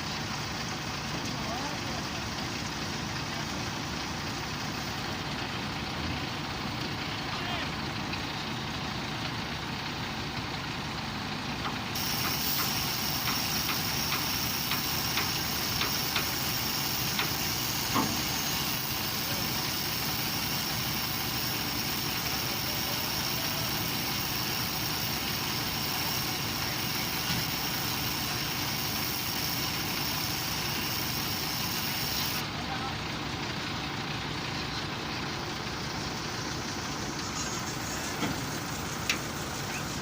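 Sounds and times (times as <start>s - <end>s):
heavy equipment engine running: 0.0s - 40.0s.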